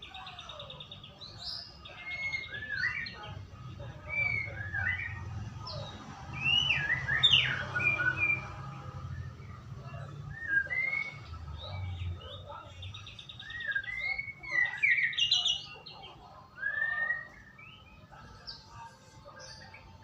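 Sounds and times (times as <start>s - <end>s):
bird singing whistled notes: 0.0s - 18.6s.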